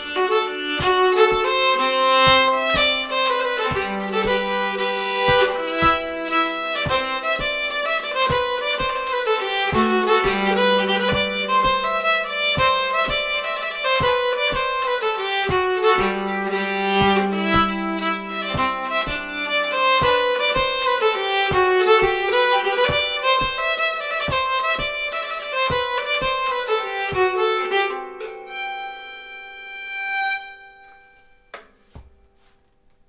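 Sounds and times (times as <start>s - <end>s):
bowed keyed fiddle tune: 0.0s - 32.6s
low knocks keeping time: 0.1s - 28.5s.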